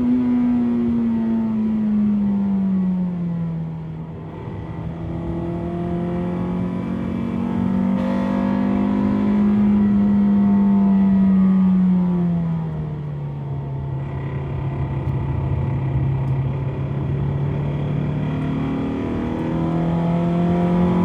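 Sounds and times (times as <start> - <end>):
car engine running at speed: 0.0 - 21.0.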